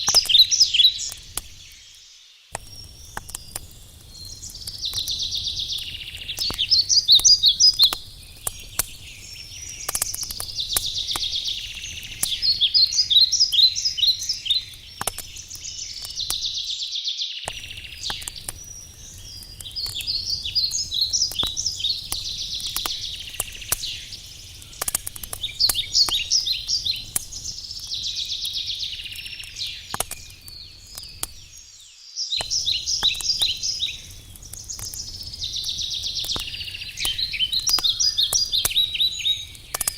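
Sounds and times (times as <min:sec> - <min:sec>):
campfire crackling and popping: 0:00.0 - 0:16.8, 0:17.4 - 0:31.8, 0:32.4 - 0:39.9
low steady hiss: 0:00.0 - 0:39.9
songbird singing: 0:00.0 - 0:39.9.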